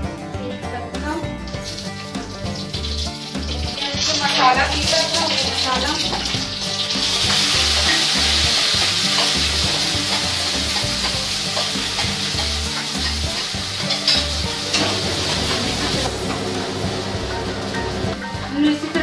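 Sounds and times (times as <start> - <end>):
paste frying sizzle in oil: 1.4 - 18.5.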